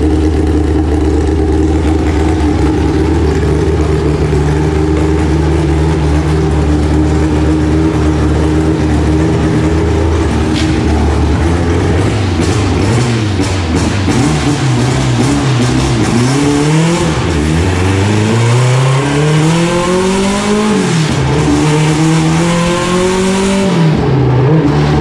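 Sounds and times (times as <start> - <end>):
car engine idling: 0.0 - 24.4.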